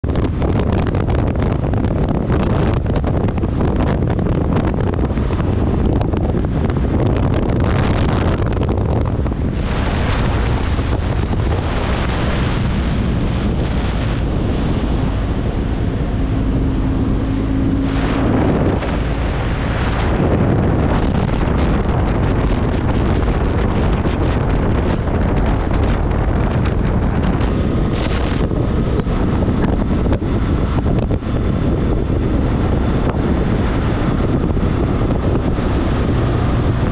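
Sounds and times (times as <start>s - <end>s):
motorcycle engine and tyre drone: 0.0s - 36.9s
wind buffeting microphone: 0.0s - 36.9s.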